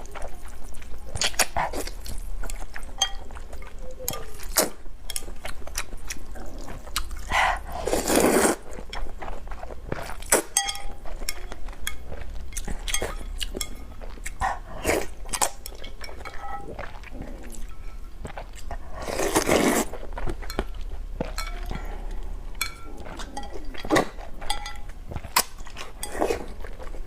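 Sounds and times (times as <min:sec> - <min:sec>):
chewing with wet mouth clicks: 0:00.0 - 0:27.0.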